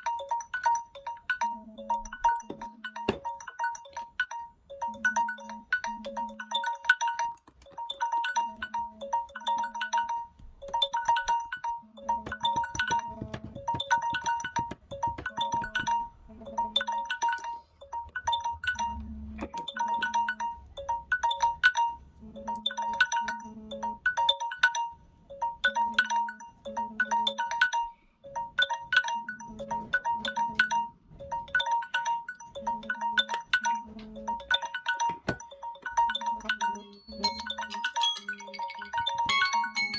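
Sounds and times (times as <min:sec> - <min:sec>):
phone alarm melody: 0:00.0 - 0:39.9.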